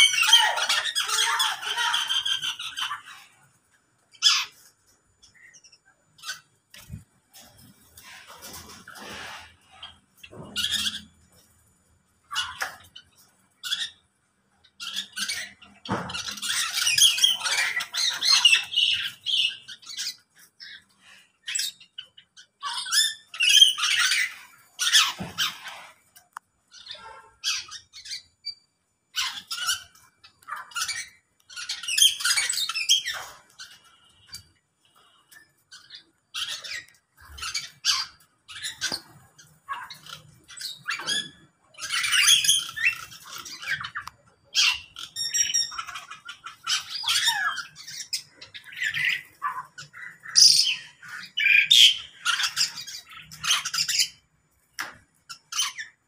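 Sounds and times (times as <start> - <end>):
birds squawking and chirping: 0.0 - 56.0.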